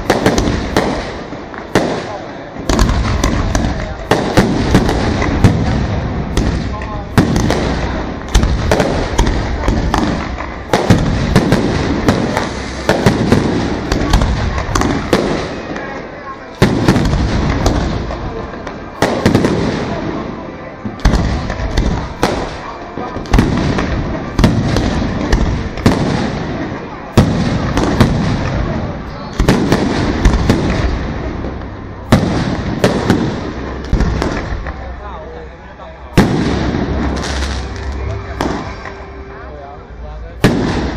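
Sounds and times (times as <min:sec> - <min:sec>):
fireworks bangs: 0:00.0 - 0:39.5, 0:40.3 - 0:40.9.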